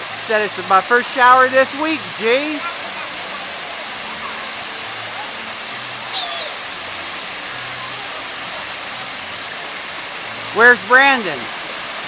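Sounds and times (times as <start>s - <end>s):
shower water splashing into pool: 0.0s - 12.0s.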